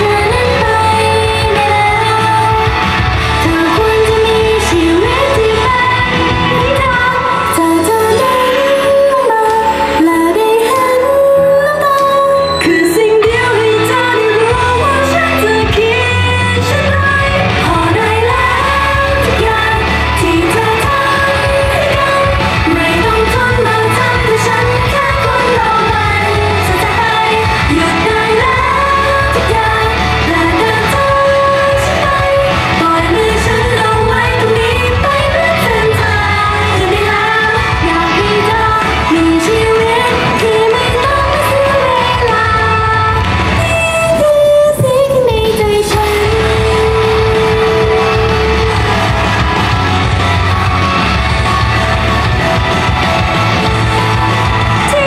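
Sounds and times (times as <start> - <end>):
pop backing track: 0.0 - 55.0
women singing pop song: 0.0 - 55.0.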